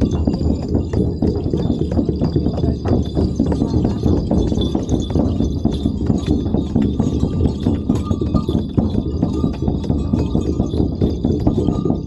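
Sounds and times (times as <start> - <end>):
frame drum beating: 0.0 - 12.0.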